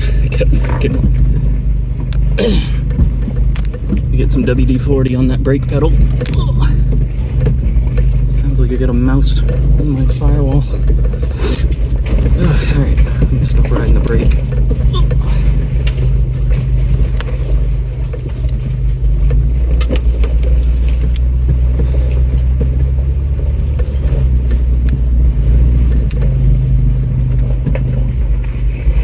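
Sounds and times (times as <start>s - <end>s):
body and suspension rattling: 0.0s - 29.0s
truck engine running low: 0.0s - 29.0s.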